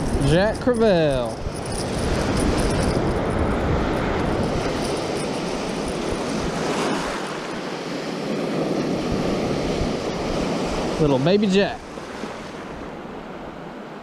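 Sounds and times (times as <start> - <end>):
wind rumbling on microphone: 0.0 - 13.9.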